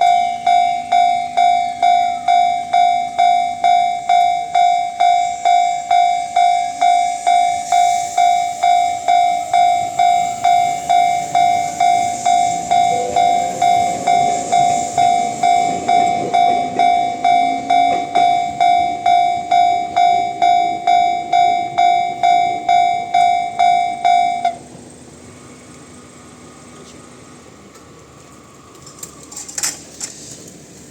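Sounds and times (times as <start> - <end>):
level-crossing alarm pulsing: 0.0 - 26.4
passing train tones: 0.0 - 30.9.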